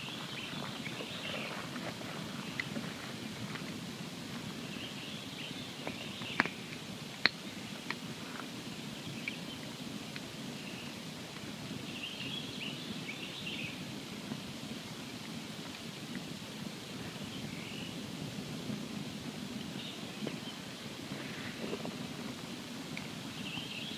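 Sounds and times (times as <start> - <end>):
campfire crackling and hissing: 0.0 - 23.9.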